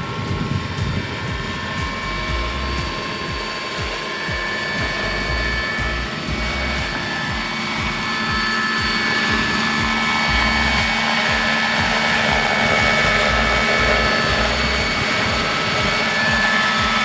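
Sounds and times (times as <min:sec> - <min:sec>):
helicopter rotor wash rushing: 0:00.0 - 0:17.0
model helicopter high whine: 0:00.0 - 0:17.0.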